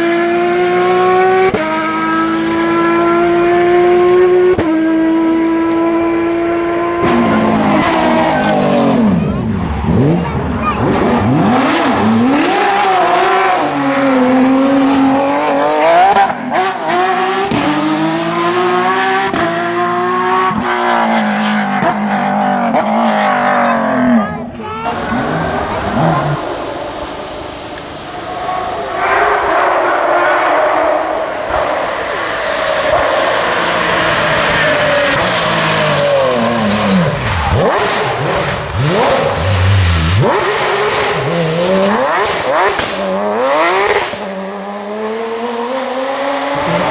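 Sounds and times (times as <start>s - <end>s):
rally car engine accelerating: 0.0s - 46.9s.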